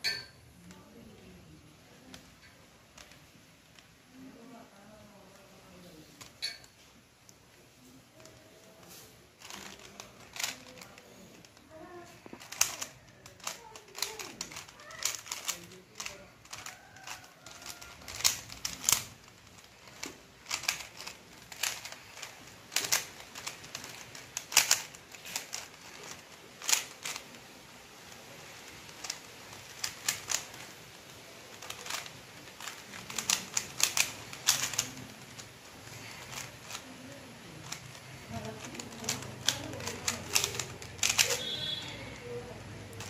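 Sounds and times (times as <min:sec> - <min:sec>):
puzzle cube clicking: 0:05.3 - 0:43.0.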